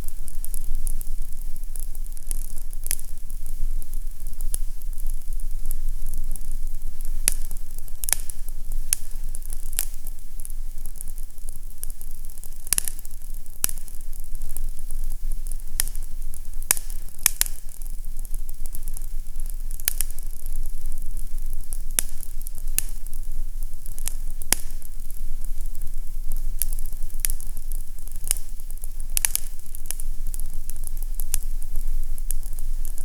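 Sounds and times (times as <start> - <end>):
fireplace fire crackling: 0.0 - 33.0.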